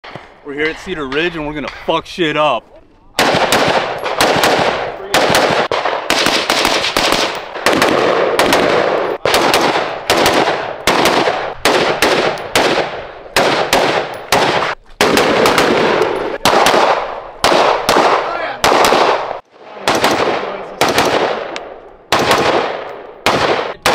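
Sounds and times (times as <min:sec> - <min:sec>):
rapid rifle gunfire: 0:03.2 - 0:23.9.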